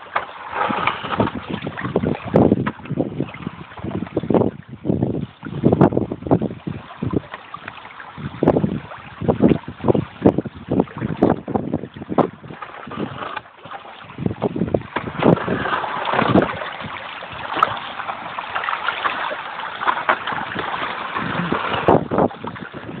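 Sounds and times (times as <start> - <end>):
small waves washing onto beach: 0.0 - 4.6, 5.3 - 23.0
wind buffeting microphone: 0.5 - 13.4, 14.0 - 23.0.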